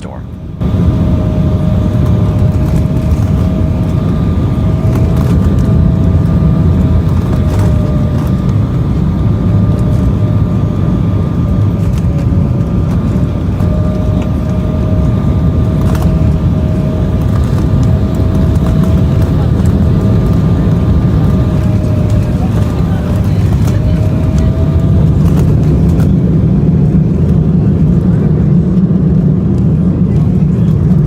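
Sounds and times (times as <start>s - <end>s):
jet airliner rumble: 0.0s - 31.0s
jet engine whine: 0.0s - 31.0s.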